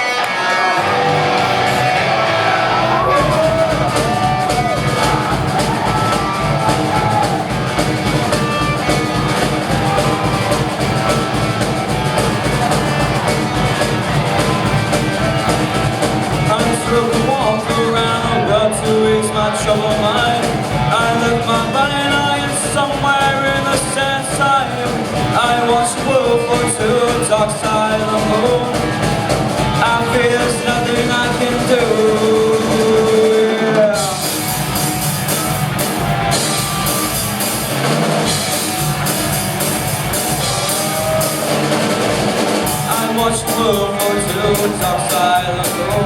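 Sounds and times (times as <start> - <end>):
live rock band playing: 0.0 - 46.0
melodic guitar line: 0.0 - 46.0.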